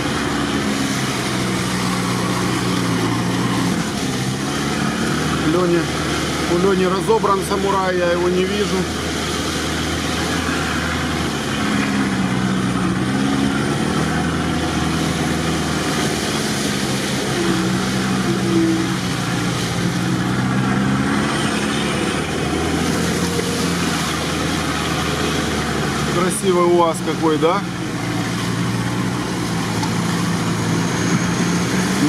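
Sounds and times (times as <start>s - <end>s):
off-road vehicle engine pulling through mud: 0.0s - 32.0s.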